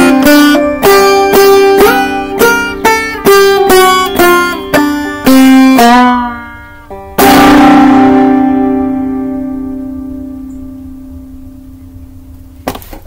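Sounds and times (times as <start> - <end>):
distorted banjo picking: 0.0 - 12.8.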